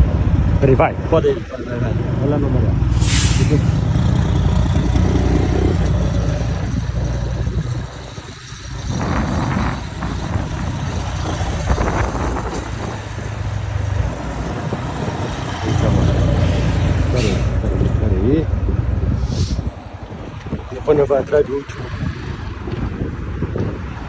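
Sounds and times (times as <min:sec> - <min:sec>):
truck diesel engine rumble: 0:00.0 - 0:24.0.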